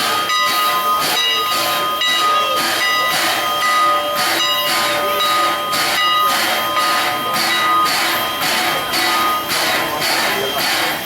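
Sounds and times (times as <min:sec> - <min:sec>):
steam locomotive chuffing: 0:00.0 - 0:11.0.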